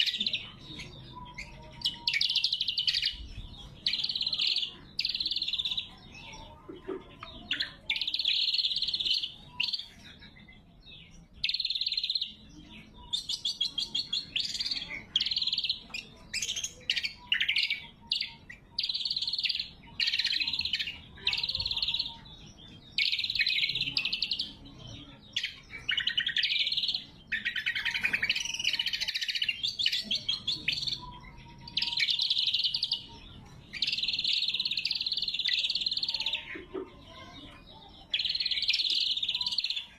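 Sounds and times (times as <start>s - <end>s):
leafbird singing trills: 0.0s - 39.9s.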